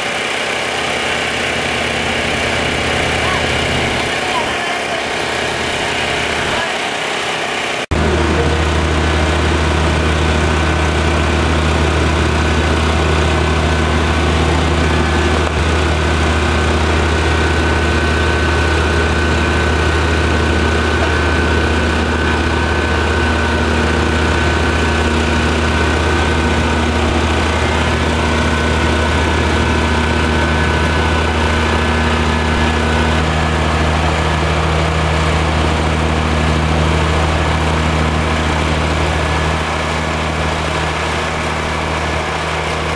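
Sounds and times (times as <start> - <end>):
large engine humming with whine: 0.0 - 42.9.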